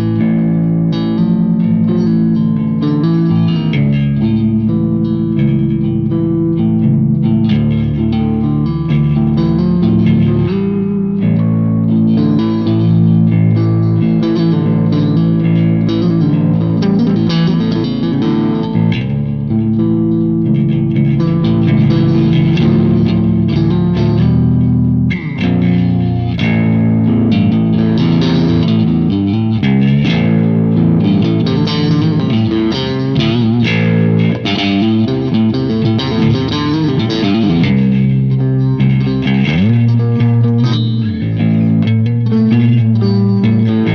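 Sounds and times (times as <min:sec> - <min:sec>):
electric guitar through an amp: 0:00.0 - 0:43.9.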